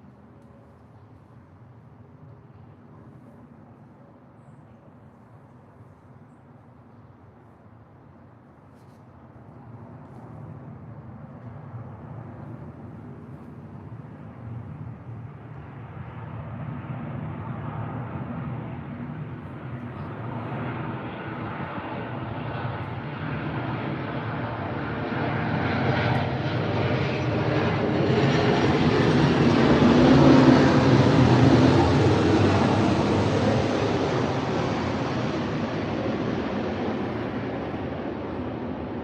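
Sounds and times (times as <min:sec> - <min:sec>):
airplane engine drone: 0:00.0 - 0:39.0.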